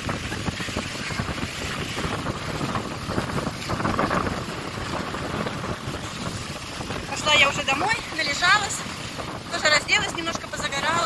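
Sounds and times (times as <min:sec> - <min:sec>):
sea surf washing on sand: 0:00.0 - 0:11.0
wind rumbling on microphone: 0:00.0 - 0:11.0.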